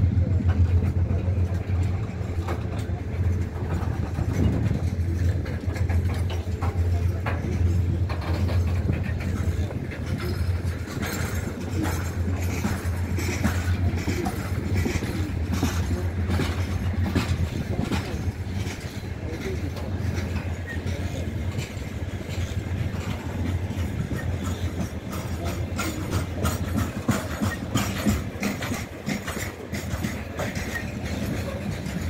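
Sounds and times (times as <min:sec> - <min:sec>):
freight train rumbling: 0:00.0 - 0:32.0
wheels clattering over rails: 0:00.0 - 0:32.0.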